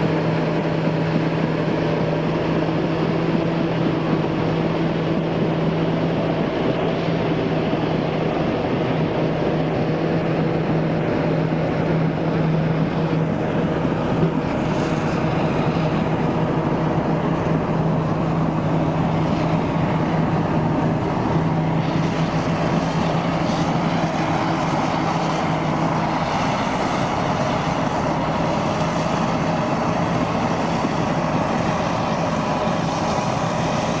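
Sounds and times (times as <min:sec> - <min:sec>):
diesel engine drone under load: 0:00.0 - 0:34.0.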